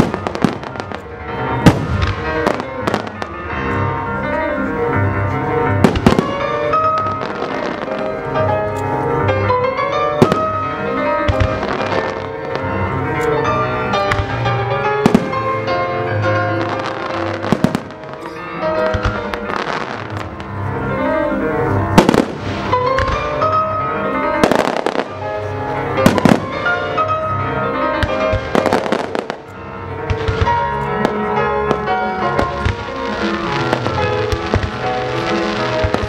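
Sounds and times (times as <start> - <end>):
classical music: 0.0 - 36.0.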